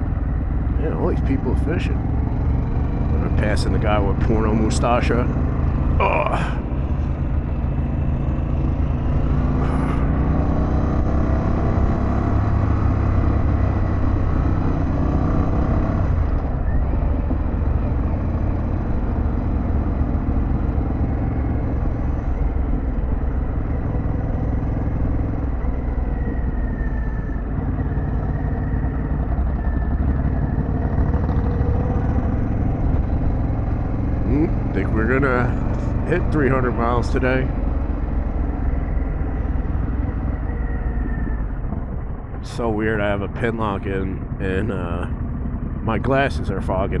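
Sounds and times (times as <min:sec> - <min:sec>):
motorcycle engine accelerating: 0:00.0 - 0:47.0
road and wind noise: 0:00.0 - 0:47.0.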